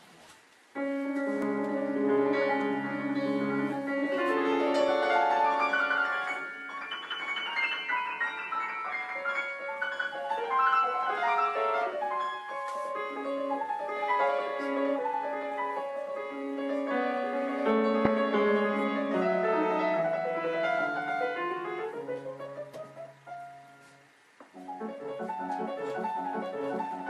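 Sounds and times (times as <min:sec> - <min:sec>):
solo piano: 0:00.8 - 0:27.0.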